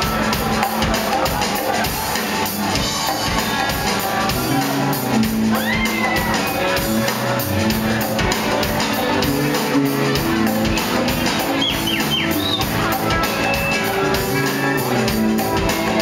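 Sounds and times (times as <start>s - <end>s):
crowd shouting and whooping: 0.0s - 16.0s
drums keeping a steady beat: 0.0s - 16.0s
live band playing: 0.0s - 16.0s
acoustic and electric guitars: 2.4s - 16.0s.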